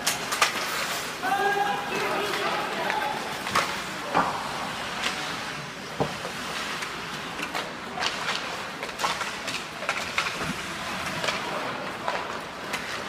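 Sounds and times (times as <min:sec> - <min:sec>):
hockey sticks and puck clacking: 0:00.0 - 0:13.0
steady rink hum: 0:00.0 - 0:13.0.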